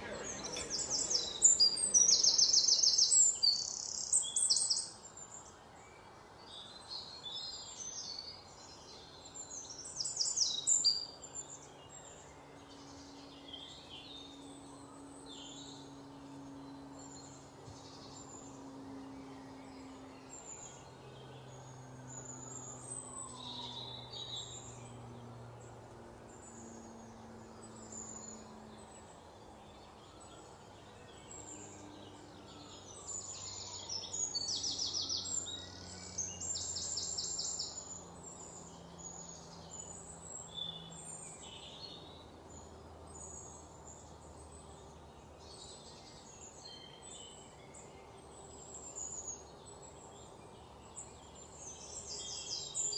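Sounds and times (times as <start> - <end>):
birds chirping and singing: 0.0 - 5.6, 6.4 - 52.9.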